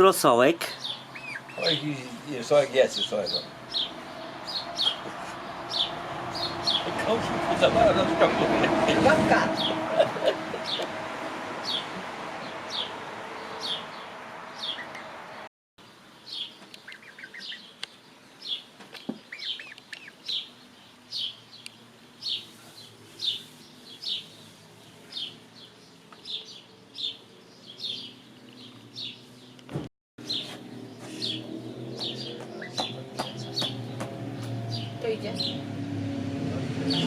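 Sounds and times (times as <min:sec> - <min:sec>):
bird chirping: 0:00.6 - 0:07.0, 0:11.6 - 0:29.6, 0:30.2 - 0:35.7.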